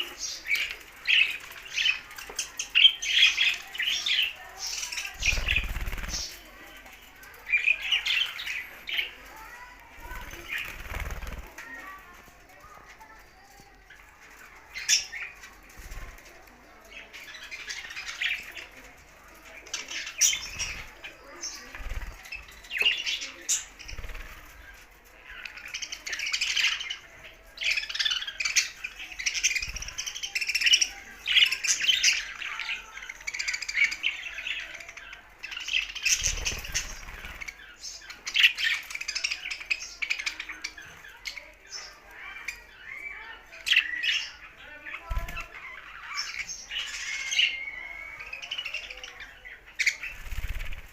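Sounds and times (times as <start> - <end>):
budgerigars chattering and warbling: 0.0 - 11.6, 16.8 - 50.9.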